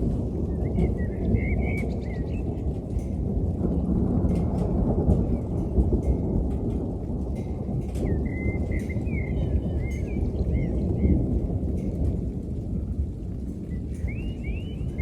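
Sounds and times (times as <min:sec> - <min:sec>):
drip ticks: 0:00.0 - 0:15.0
rain: 0:00.0 - 0:15.0
rolling thunder: 0:00.0 - 0:15.0.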